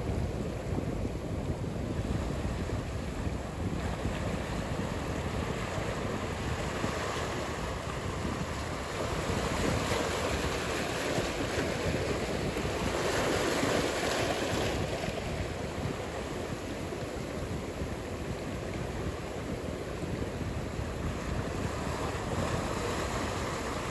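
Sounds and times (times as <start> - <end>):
ocean waves breaking: 0.0 - 23.9.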